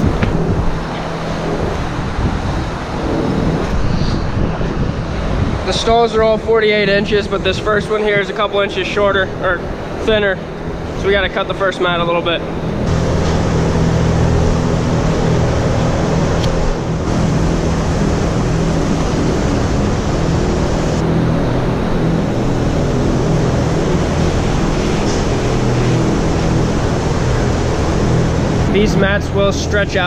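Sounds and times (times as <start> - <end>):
ventilation fans humming: 0.0 - 30.0.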